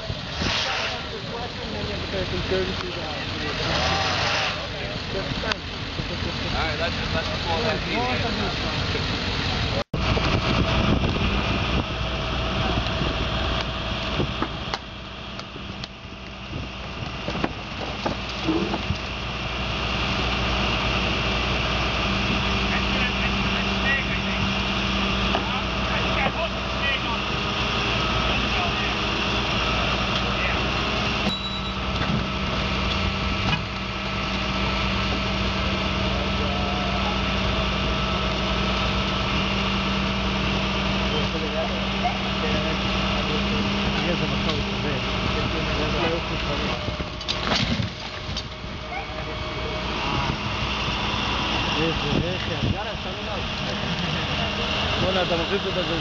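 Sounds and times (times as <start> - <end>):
street noise: 0.0 - 56.0
vehicle engine idling: 0.0 - 56.0.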